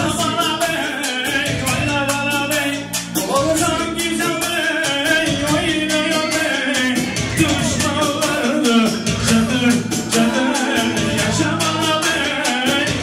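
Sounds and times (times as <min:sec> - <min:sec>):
loud amplified band music: 0:00.0 - 0:13.0
man singing into a microphone: 0:00.0 - 0:13.0
quick steady drum beat: 0:00.0 - 0:13.0.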